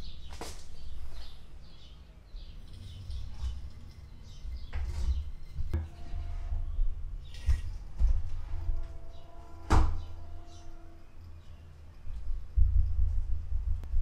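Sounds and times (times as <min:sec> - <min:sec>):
low rumble: 0:02.6 - 0:14.0.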